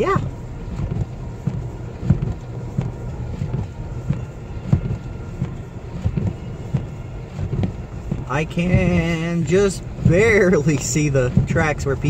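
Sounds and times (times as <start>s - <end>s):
car knocking through snow: 0.0s - 12.0s
engine and tyre rumble: 0.0s - 12.0s.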